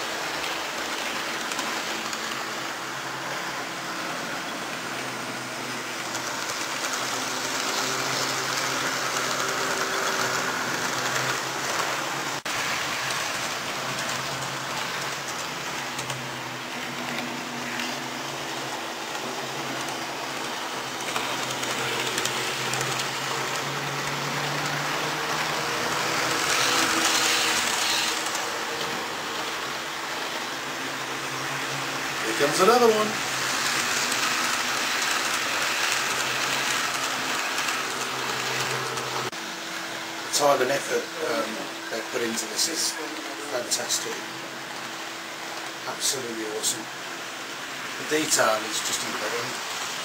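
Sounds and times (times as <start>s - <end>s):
model train motors whirring: 0.0s - 50.0s.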